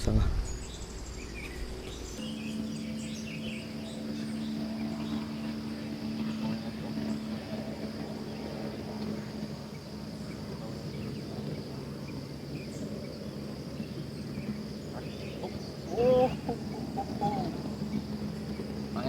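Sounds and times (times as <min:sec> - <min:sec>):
low steady hum: 0:00.0 - 0:19.0
insect chorus shrilling: 0:00.3 - 0:19.0.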